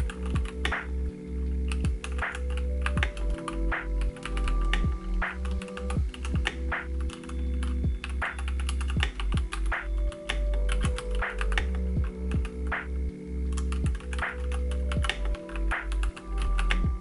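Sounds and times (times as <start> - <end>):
lofi music with bass line: 0.0 - 17.0.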